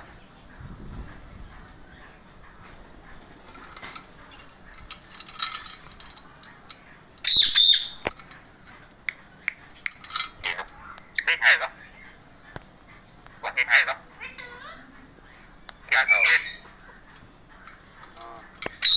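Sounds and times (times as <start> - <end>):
parakeets calling: 1.1 - 18.9.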